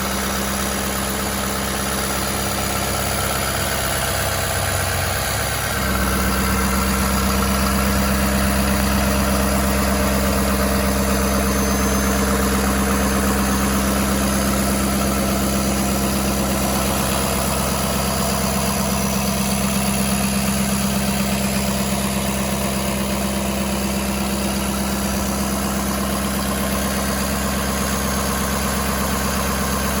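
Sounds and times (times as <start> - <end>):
pickup truck engine idling: 0.0 - 30.0.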